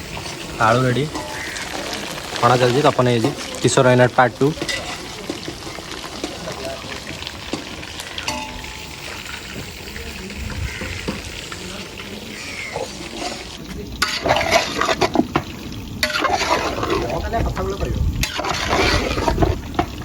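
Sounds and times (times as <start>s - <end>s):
utensil stirring and scraping pan: 0.0s - 9.9s, 10.7s - 20.0s
food deep-frying in hot oil: 0.0s - 20.0s.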